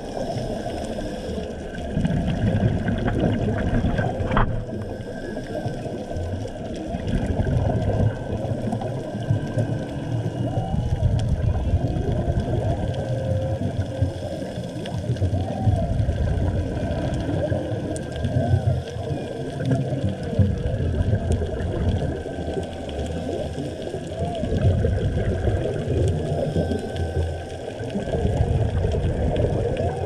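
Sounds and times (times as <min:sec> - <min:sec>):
distant whale song: 0:00.0 - 0:30.0
underwater water rumble: 0:00.0 - 0:30.0.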